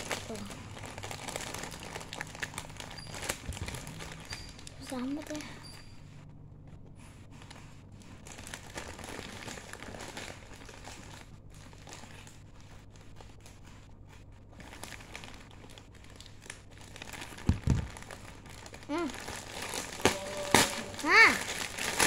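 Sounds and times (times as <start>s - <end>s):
plastic packaging crinkling: 0.0s - 5.5s, 7.5s - 22.0s.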